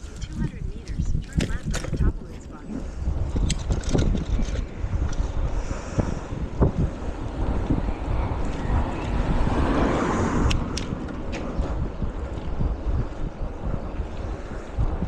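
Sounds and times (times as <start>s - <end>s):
bicycle ride rumble: 0.0s - 15.0s
wind buffeting microphone: 0.0s - 15.0s.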